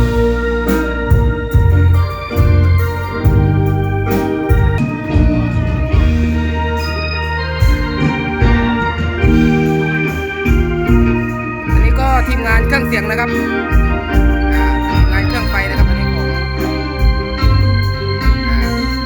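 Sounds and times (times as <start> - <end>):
electronic organ: 0.0 - 19.0
loud bass line: 0.0 - 19.0.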